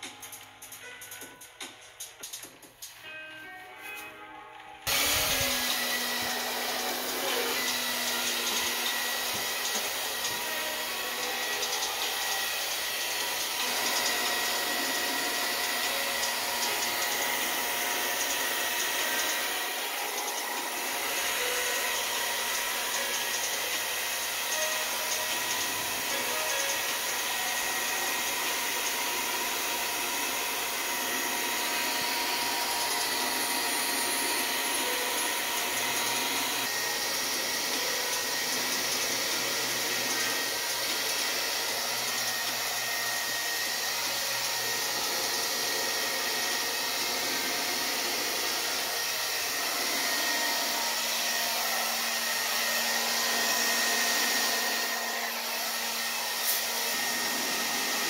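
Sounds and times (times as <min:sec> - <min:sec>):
hair dryer blowing: 0:04.8 - 0:58.0.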